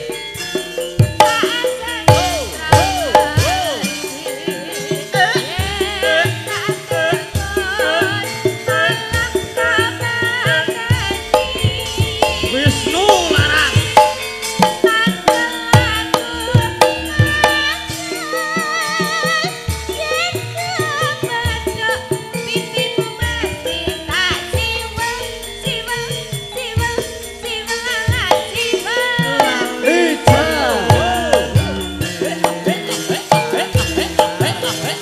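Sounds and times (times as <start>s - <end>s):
woman singing wavering melody: 0.0s - 12.6s, 13.4s - 35.0s
gamelan music: 0.0s - 35.0s
ringing metallophone notes: 0.0s - 35.0s.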